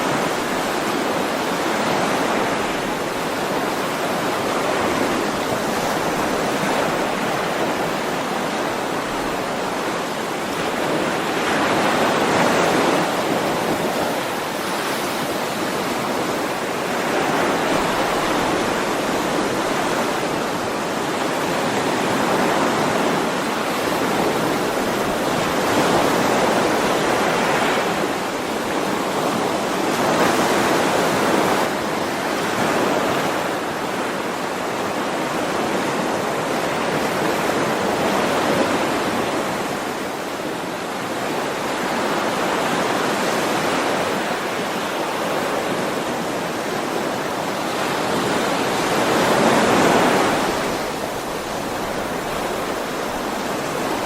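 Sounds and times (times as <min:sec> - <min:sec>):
surf waves washing in: 0:00.0 - 0:54.0.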